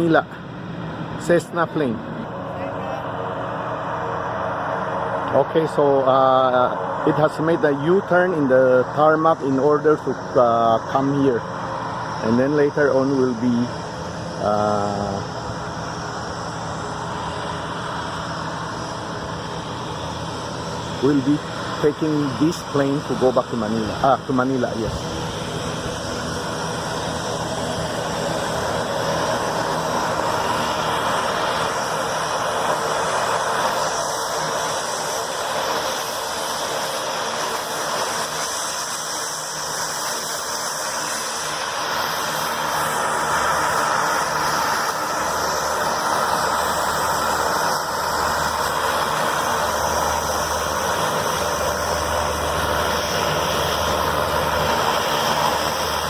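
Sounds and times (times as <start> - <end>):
light aircraft engine running: 0.0 - 56.0.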